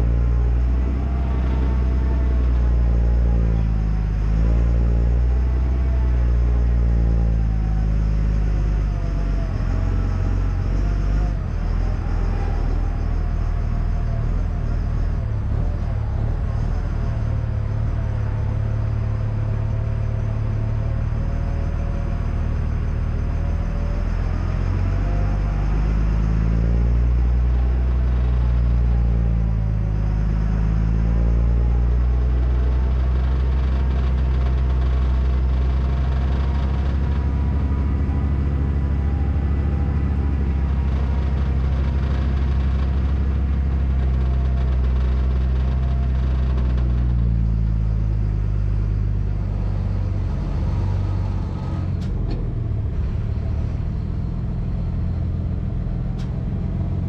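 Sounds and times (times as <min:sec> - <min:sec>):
diesel truck engine driving: 0:00.0 - 0:57.0.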